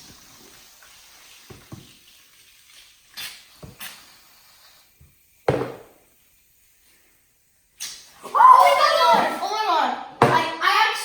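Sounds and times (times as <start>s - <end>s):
aerosol can spraying: 0.0s - 10.4s.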